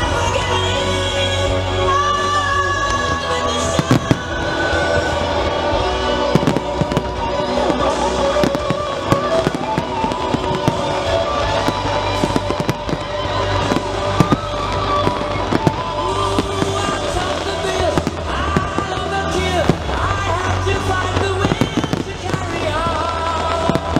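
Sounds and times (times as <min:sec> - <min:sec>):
music playing: 0:00.0 - 0:23.9
fireworks bangs and crackles: 0:02.4 - 0:23.9.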